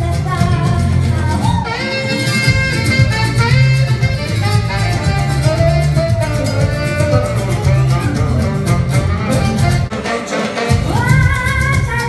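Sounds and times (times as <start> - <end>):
live saxophone music with band: 0.0 - 12.0.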